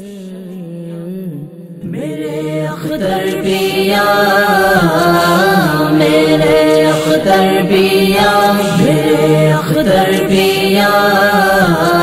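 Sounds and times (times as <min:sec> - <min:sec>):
person chanting unaccompanied: 0:00.0 - 0:12.0.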